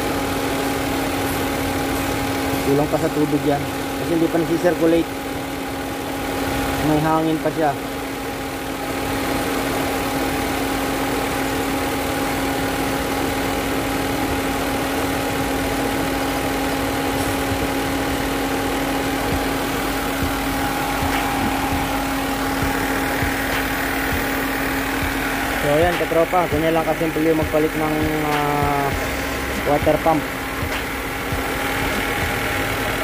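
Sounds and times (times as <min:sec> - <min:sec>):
car engine idling: 0:00.0 - 0:33.0
noisy water pump: 0:00.0 - 0:33.0.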